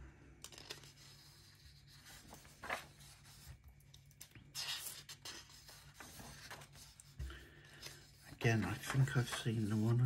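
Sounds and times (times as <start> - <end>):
paper pages turning: 0.4 - 10.0.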